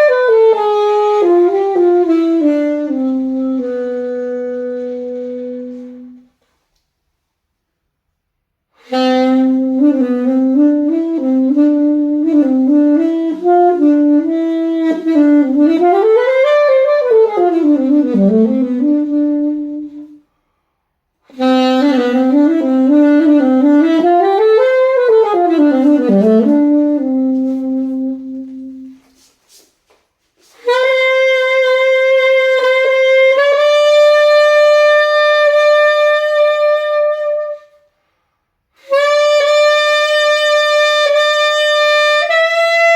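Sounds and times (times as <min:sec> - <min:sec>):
alto saxophone improvising: 0:00.0 - 0:06.5, 0:08.8 - 0:20.3, 0:21.2 - 0:29.6, 0:30.4 - 0:37.9, 0:38.7 - 0:42.9.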